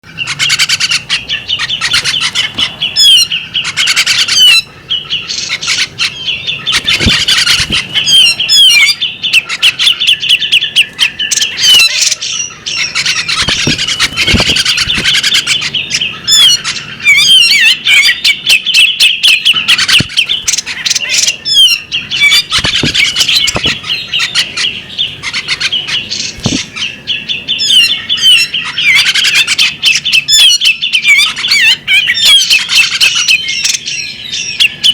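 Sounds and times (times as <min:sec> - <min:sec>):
bird singing chirps and trills: 0:00.0 - 0:34.9.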